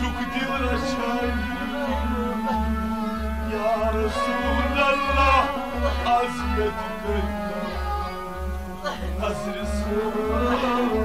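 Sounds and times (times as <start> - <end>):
devotional melody bending in pitch: 0.0 - 11.0.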